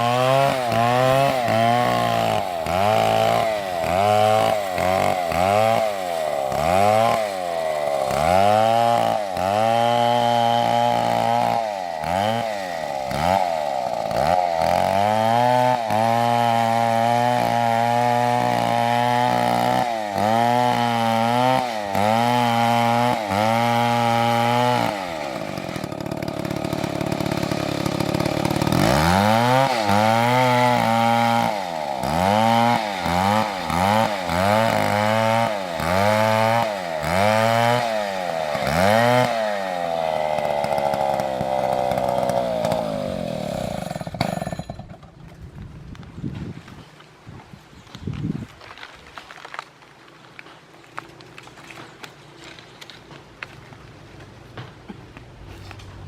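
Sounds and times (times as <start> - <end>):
chainsaw cutting into tree: 0.0 - 45.2.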